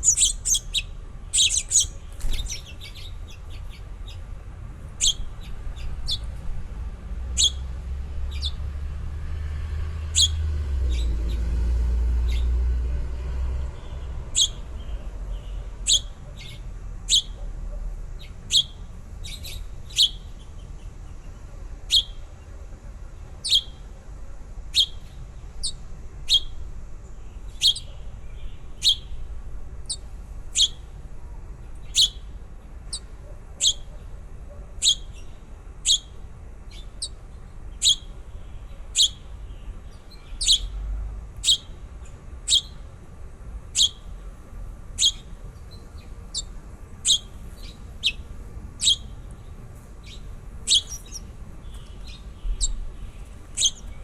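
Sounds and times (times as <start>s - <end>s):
small bird chirping: 0.0s - 4.3s, 4.9s - 6.5s, 7.3s - 8.8s, 10.0s - 11.6s, 12.2s - 12.6s, 13.6s - 17.5s, 18.2s - 22.5s, 23.2s - 23.9s, 24.7s - 31.0s, 31.7s - 34.1s, 34.8s - 40.8s, 41.4s - 43.0s, 43.6s - 44.3s, 44.9s - 54.0s.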